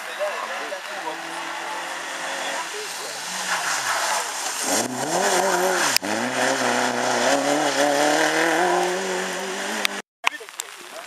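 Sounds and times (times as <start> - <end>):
rally car engine accelerating: 0.4 - 10.0.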